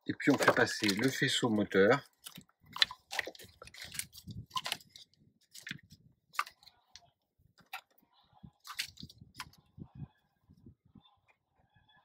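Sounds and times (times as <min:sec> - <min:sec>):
plastic conduit clicking and crinkling: 0:00.0 - 0:09.7.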